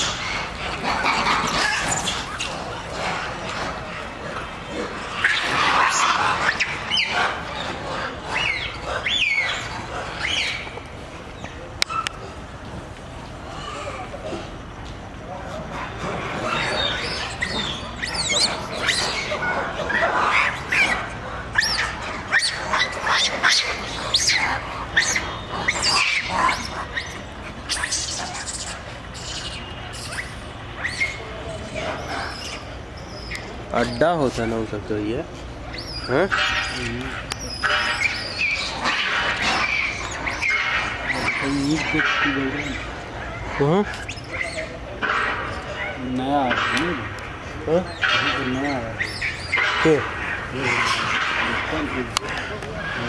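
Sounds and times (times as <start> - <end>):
high squealing animal calls: 0.0 - 12.6, 13.4 - 53.0.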